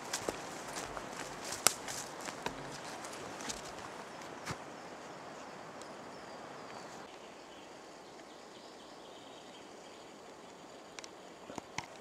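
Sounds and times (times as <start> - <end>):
distant birdsong: 0.0 - 11.8
steady forest hiss: 0.0 - 12.0.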